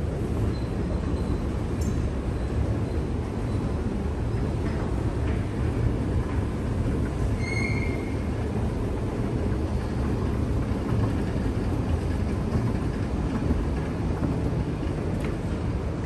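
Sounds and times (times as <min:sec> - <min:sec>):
escalator low rumble: 0:00.0 - 0:16.0.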